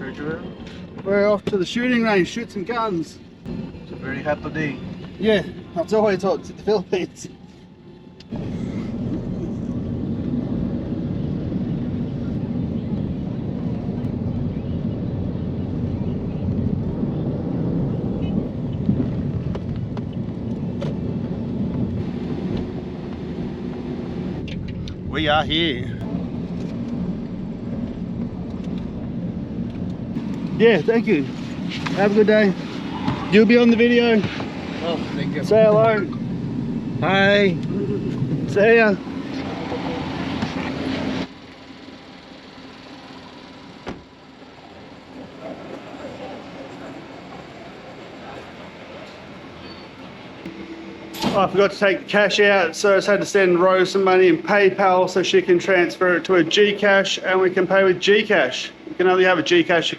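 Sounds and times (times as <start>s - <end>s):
engine and tyre rumble: 0.0s - 59.9s.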